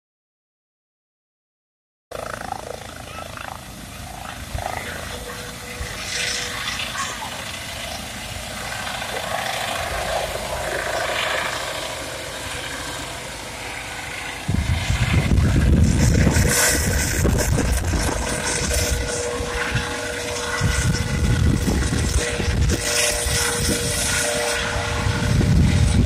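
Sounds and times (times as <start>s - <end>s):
helicopter low rumble overhead: 2.1s - 26.0s
helicopter rotor and engine: 2.1s - 26.0s.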